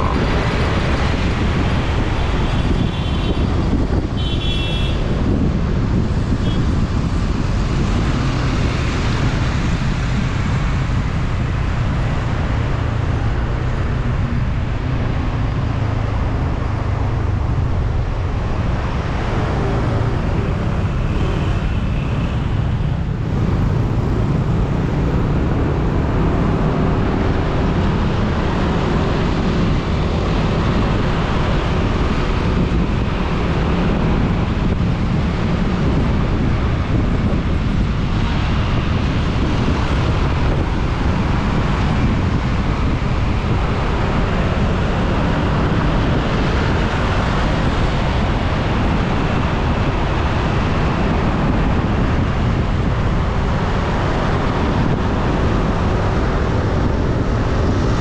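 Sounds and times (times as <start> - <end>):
road traffic: 0.0 - 58.0
wind over microphone: 0.0 - 58.0.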